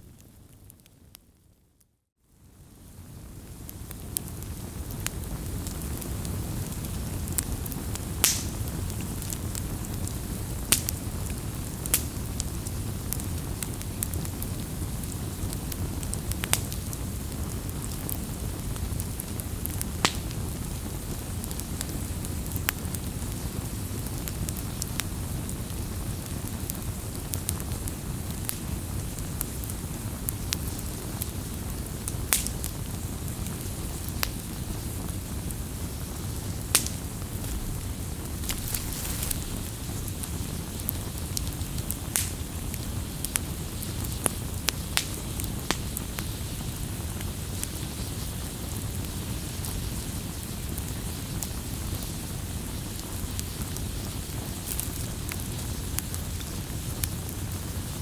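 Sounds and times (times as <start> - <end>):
fire crackles and pops: 0.0 - 58.0
bonfire flames rumbling: 2.4 - 58.0.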